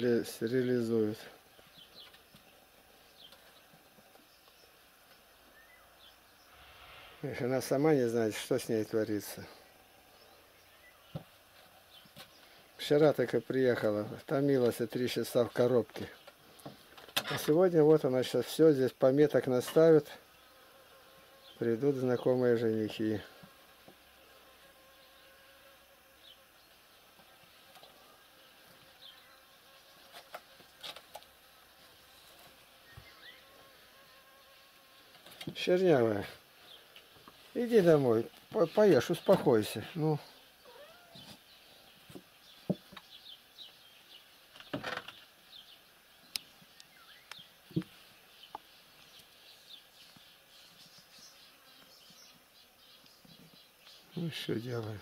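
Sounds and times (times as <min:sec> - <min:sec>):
small birds chirping: 0:00.0 - 0:07.4, 0:08.4 - 0:31.4, 0:32.1 - 0:55.0.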